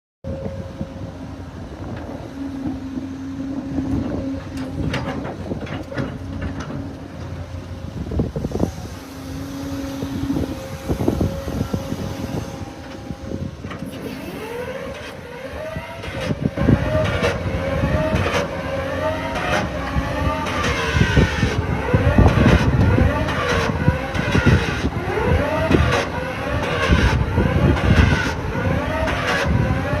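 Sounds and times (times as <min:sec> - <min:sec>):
excavator engine and hydraulics: 0:00.2 - 0:30.0.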